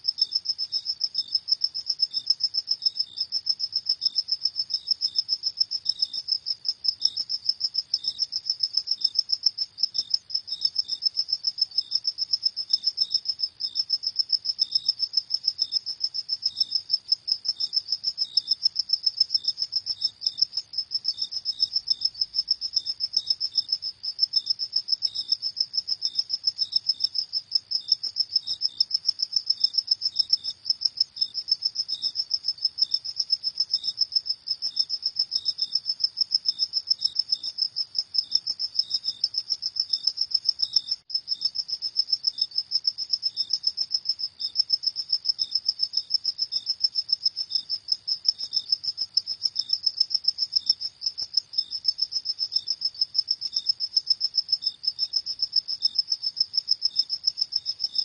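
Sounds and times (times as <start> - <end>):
fainter cricket chirping: 0.0 - 58.0.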